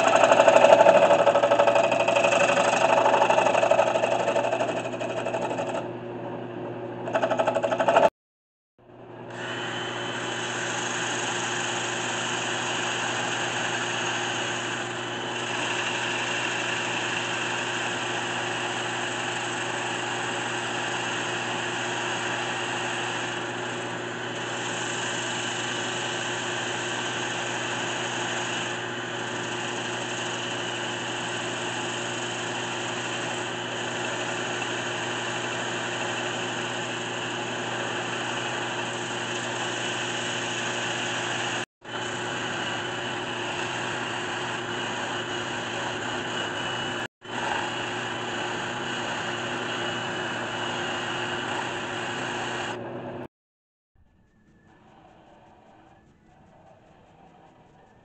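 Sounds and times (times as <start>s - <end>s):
wood lathe motor hum: 0.0s - 8.1s, 9.3s - 52.8s.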